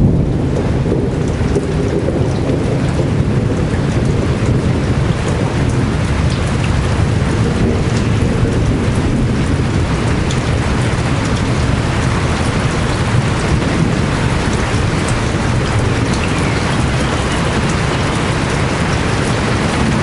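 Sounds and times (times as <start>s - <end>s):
deep low rumble: 0.0s - 20.0s
heavy rain pouring: 0.0s - 20.0s.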